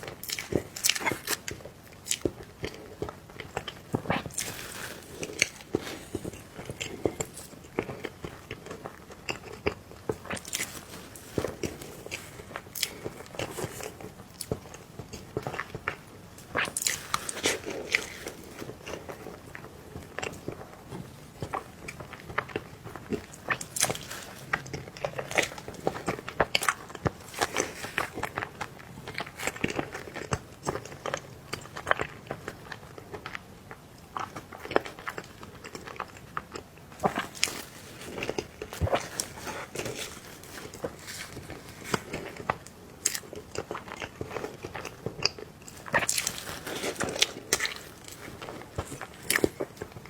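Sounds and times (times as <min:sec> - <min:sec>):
person chewing soft cake: 0:00.0 - 0:50.0.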